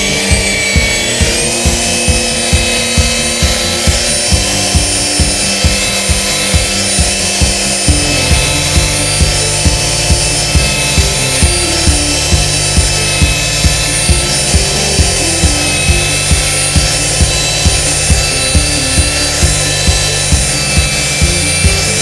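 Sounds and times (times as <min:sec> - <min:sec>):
car polisher motor whine: 0:00.0 - 0:22.0
music with a steady beat: 0:00.0 - 0:22.0.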